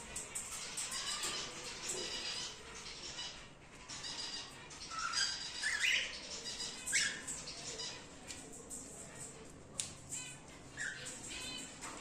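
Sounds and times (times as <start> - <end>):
cockatiels chirping and squawking: 0.1 - 8.4, 10.1 - 12.0.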